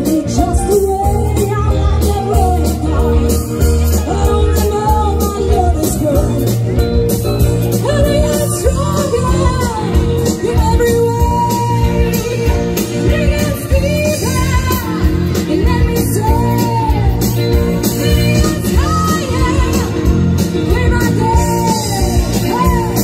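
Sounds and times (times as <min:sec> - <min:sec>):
bass guitar: 0:00.0 - 0:23.0
drum kit: 0:00.0 - 0:23.0
electric guitars: 0:00.0 - 0:23.0
keyboards: 0:00.0 - 0:23.0
woman singing lead: 0:00.0 - 0:23.0.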